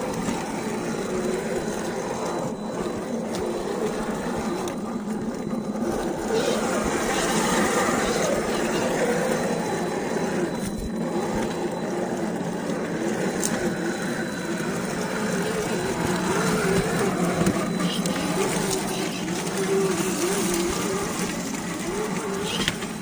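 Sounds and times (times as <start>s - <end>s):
electric motor and gears whining: 0.0s - 23.0s.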